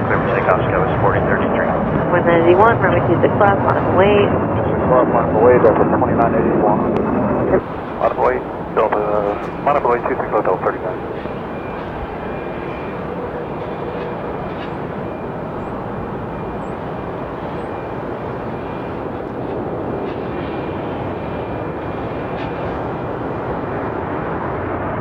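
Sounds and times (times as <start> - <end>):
jet airliner rushing: 0.0 - 25.0.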